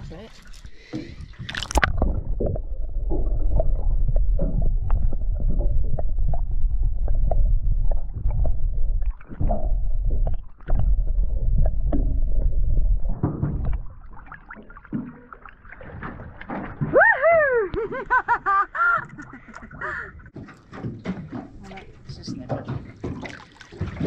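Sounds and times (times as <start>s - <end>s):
underwater clicks and knocks: 0.0s - 18.0s, 19.0s - 24.0s
underwater rumble of water: 0.0s - 24.0s.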